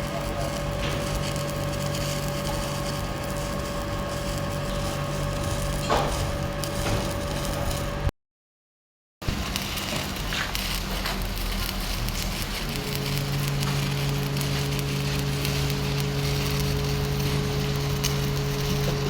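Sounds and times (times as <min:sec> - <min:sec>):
welding arc crackling: 0:00.0 - 0:08.1, 0:09.2 - 0:19.0.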